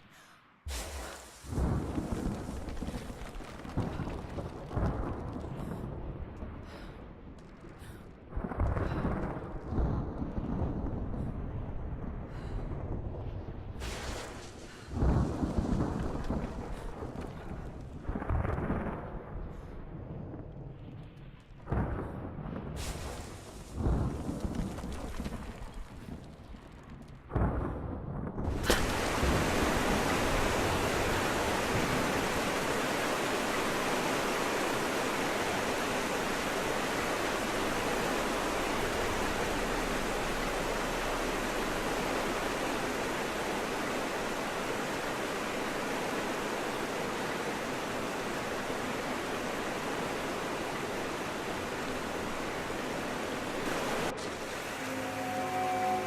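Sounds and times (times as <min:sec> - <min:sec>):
rushing water or rain: 0:00.7 - 0:21.0, 0:22.6 - 0:27.6, 0:28.4 - 0:56.0.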